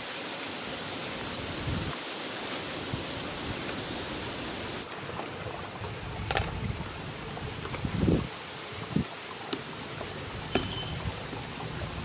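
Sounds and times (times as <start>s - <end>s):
water flowing in a canal: 0.0s - 12.0s.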